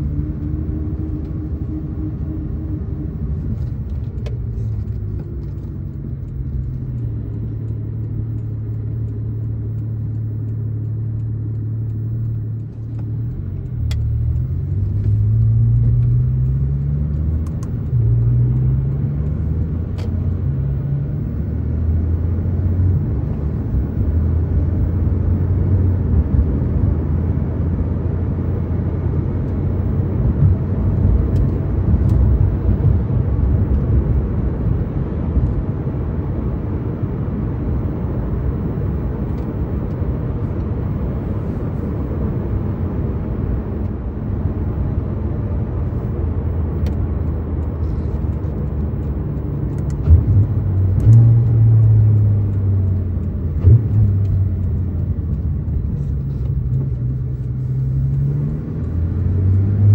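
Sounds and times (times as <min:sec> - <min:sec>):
car engine from inside cabin: 0:00.0 - 0:59.9
tyre and road rumble: 0:00.0 - 0:59.9.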